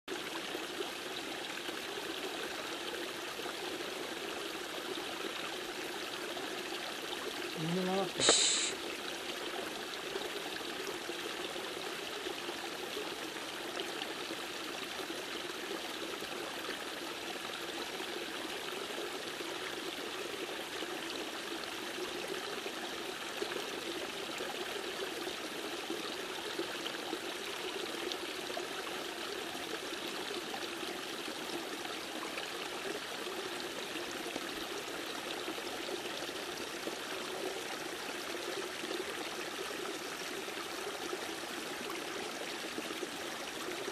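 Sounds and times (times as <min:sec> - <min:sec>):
stream rushing and trickling: 0:00.1 - 0:43.9.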